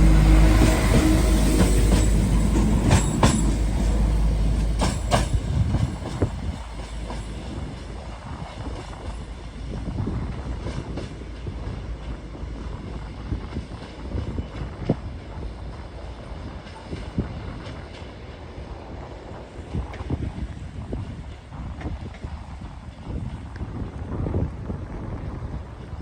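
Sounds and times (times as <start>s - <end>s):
train engine rumble: 0.0s - 26.0s.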